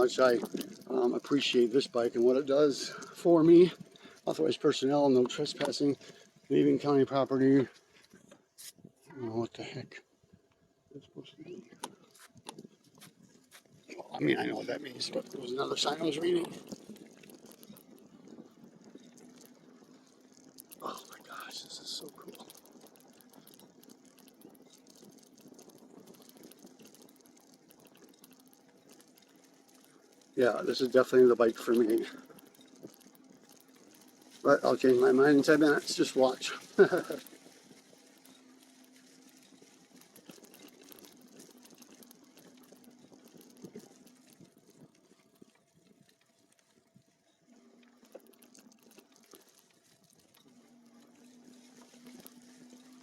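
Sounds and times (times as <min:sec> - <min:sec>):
bike tyres rolling on dirt: 0:00.0 - 0:08.3, 0:11.6 - 0:53.0
small ticks and crackles: 0:00.0 - 0:53.0.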